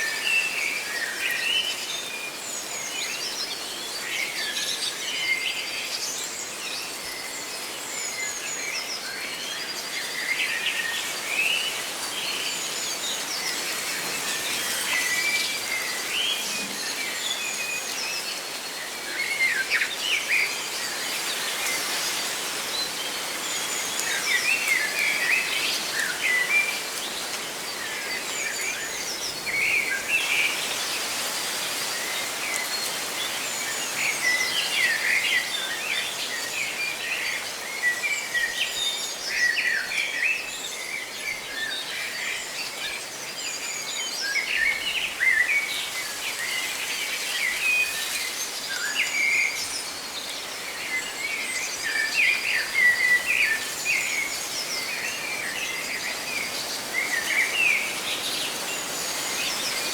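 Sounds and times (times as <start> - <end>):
rustling leaves: 0.0 - 59.9.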